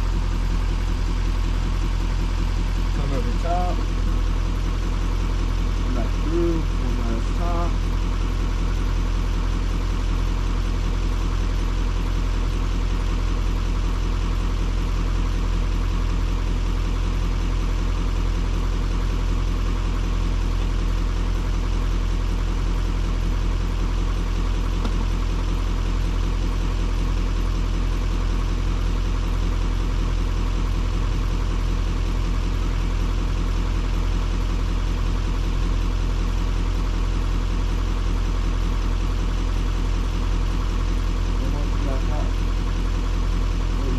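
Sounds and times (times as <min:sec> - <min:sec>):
diesel pickup engine idling: 0:00.0 - 0:43.9.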